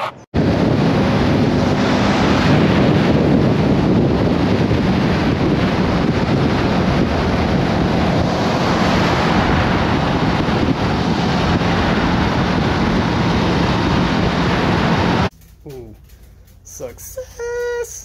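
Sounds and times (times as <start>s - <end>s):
wind buffeting microphone: 0.3s - 15.4s.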